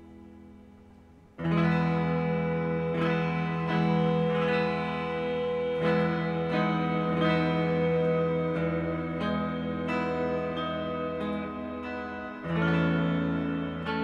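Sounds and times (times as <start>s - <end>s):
guitar chords through effects: 0.0s - 14.0s.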